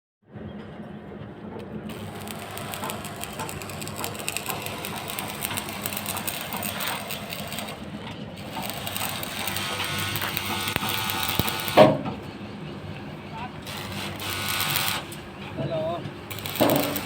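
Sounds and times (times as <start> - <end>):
construction machinery humming: 1.8 - 17.0.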